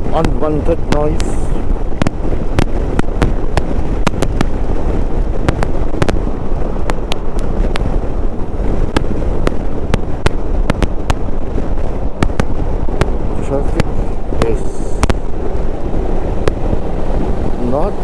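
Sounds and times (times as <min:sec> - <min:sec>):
sharp microphone clicks: 0:00.0 - 0:08.1, 0:08.8 - 0:15.4, 0:16.3 - 0:16.8
motorcycle road noise: 0:00.0 - 0:18.0
wind rumble on microphone: 0:00.0 - 0:18.0.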